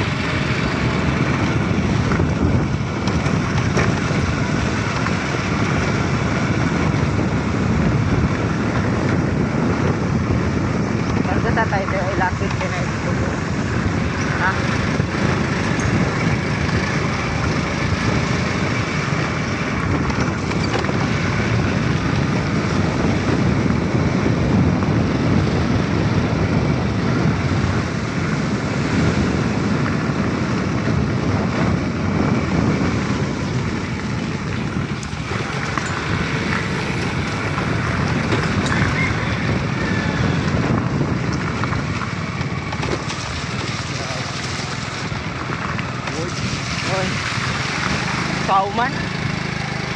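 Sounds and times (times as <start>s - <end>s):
motorcycle engine: 0.0s - 49.9s
wind rushing over microphone: 0.0s - 49.9s.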